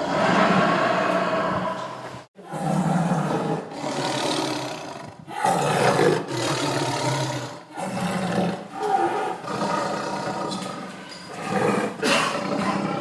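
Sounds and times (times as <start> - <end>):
tiger roaring: 0.0 - 13.0.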